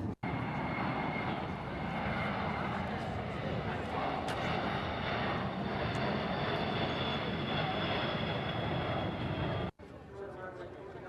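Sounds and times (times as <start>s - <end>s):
aircraft engine roar: 0.0s - 11.0s.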